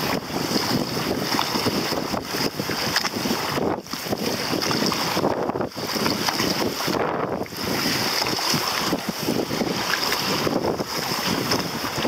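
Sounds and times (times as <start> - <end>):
choppy water splashing: 0.0 - 12.0
wind buffeting microphone: 0.0 - 12.0.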